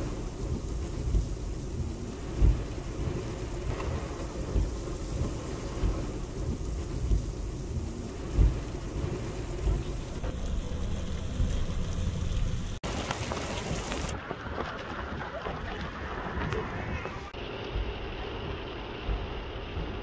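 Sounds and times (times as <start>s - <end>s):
heavy rain splashing on ground: 0.0s - 20.0s
low rumbling: 0.0s - 20.0s.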